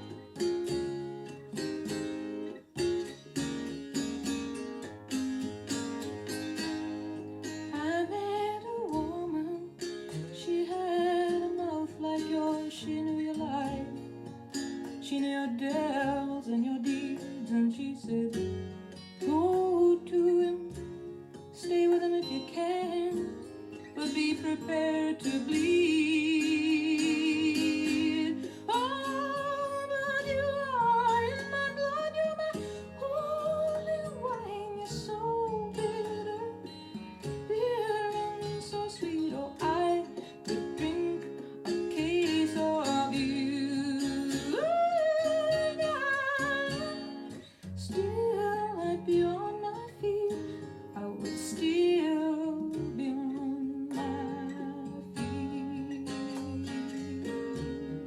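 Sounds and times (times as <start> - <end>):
plucked acoustic strings: 0.0 - 58.0
person singing with vibrato: 7.7 - 14.0, 15.0 - 21.0, 21.6 - 58.0.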